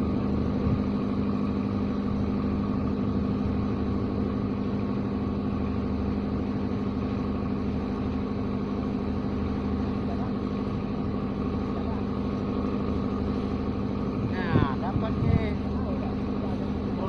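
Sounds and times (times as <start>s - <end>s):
engine idling hum: 0.0s - 17.0s.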